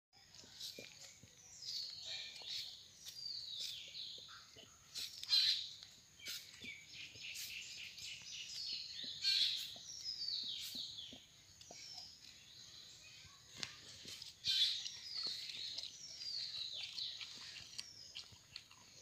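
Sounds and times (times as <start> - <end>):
birds chirping: 0.2 - 19.0.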